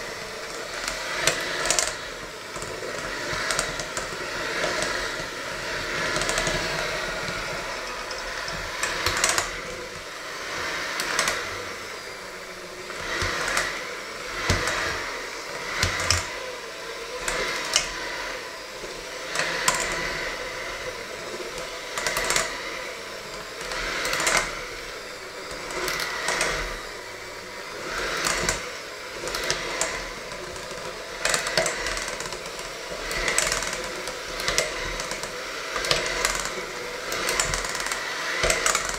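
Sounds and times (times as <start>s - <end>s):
electric hand mixer running: 0.0s - 38.9s.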